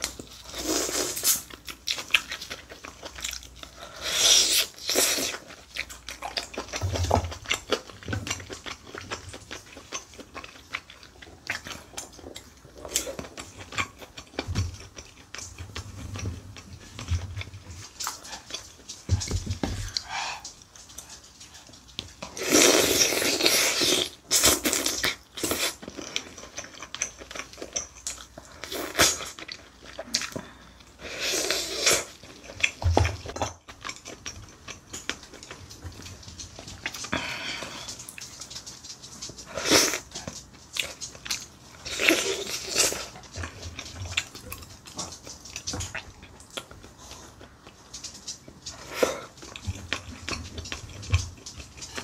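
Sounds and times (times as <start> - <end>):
biting and sucking meat off bone: 0.0 - 52.0
wet chewing: 0.0 - 52.0.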